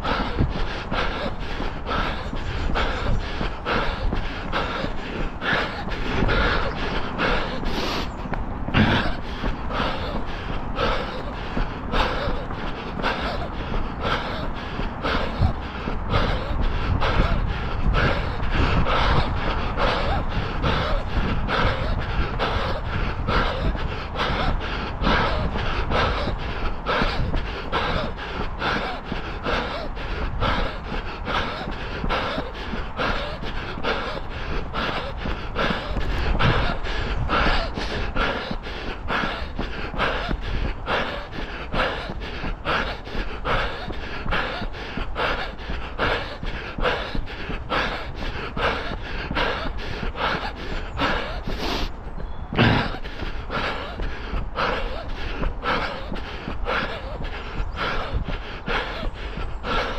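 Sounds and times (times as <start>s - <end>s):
runner breathing rhythmically: 0.0s - 59.9s
steady low rumble: 0.0s - 59.9s.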